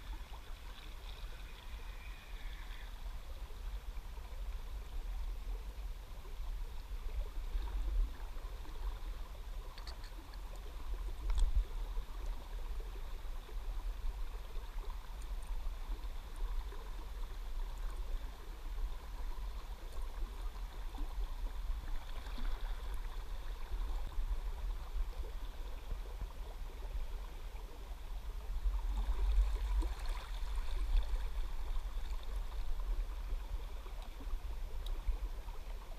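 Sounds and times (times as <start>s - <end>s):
low uneven rumble: 0.0s - 35.9s
river water flowing and gurgling: 0.0s - 35.9s.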